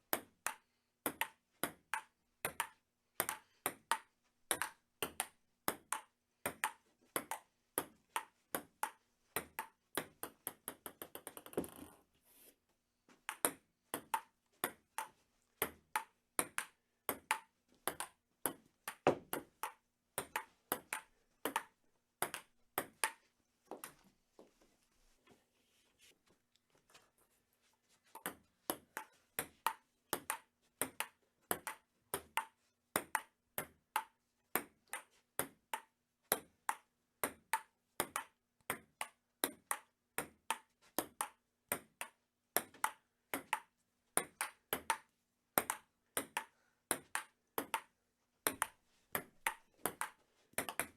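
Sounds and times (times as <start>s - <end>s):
ping-pong ball bouncing faster: 0.1s - 12.0s, 13.2s - 23.2s, 28.2s - 50.9s
ping-pong ball hitting paddles: 0.1s - 12.0s, 13.2s - 24.0s, 28.2s - 50.9s.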